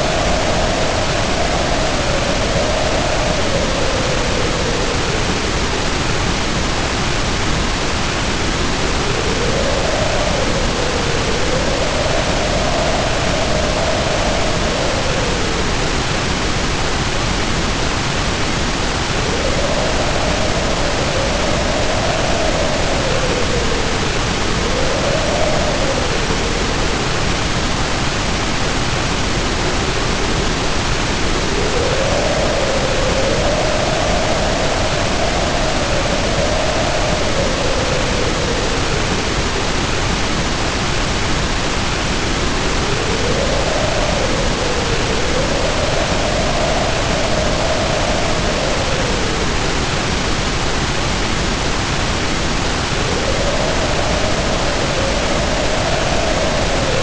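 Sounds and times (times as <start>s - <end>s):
heavy rain pouring: 0.0s - 57.0s
wind howling in gusts: 0.0s - 57.0s.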